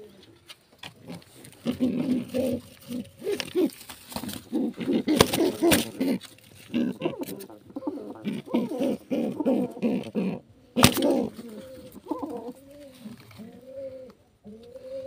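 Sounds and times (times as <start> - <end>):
pigeon cooing: 0.0 - 15.0.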